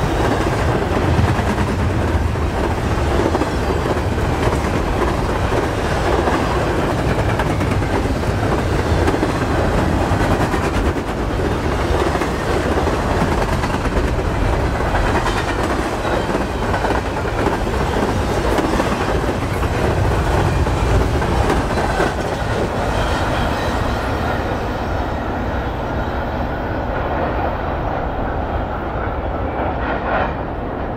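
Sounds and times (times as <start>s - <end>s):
freight train rumbling past: 0.0s - 30.9s.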